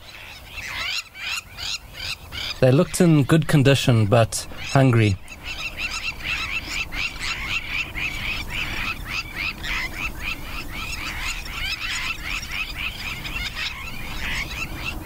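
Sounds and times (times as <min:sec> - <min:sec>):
birds squawking chatter: 0:00.0 - 0:15.0.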